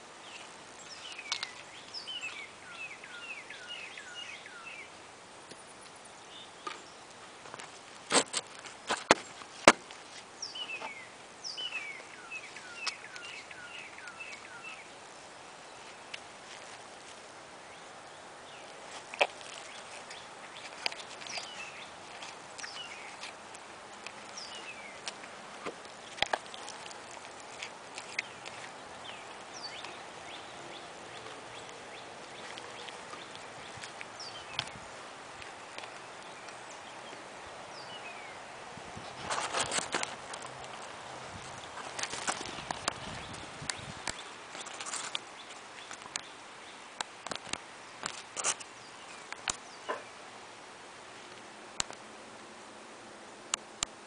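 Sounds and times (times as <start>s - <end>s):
deer chewing apple: 0.0s - 4.8s, 5.5s - 46.3s
small birds chirping: 0.0s - 50.3s.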